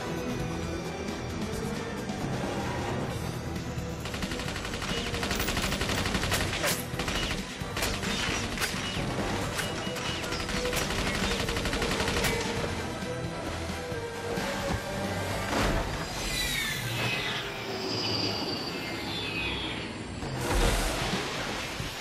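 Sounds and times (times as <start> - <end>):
film score music: 0.0 - 22.0.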